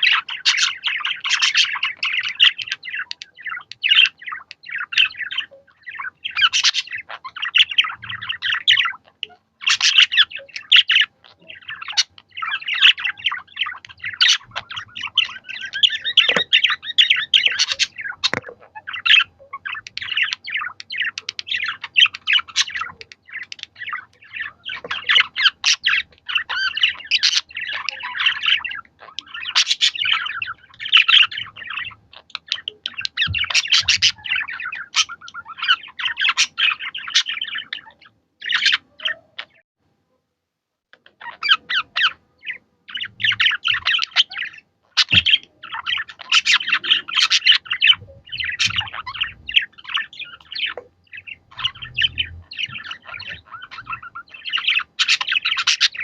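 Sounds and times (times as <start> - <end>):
budgerigars chattering: 0.0 - 39.6, 41.0 - 56.0.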